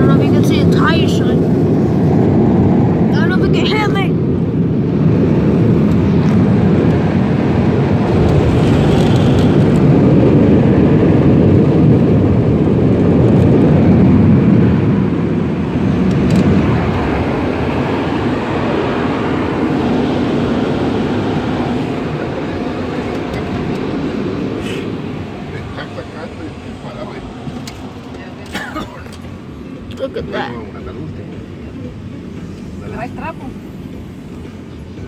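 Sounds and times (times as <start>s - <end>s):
car wash dryer blowers: 0.0s - 35.0s.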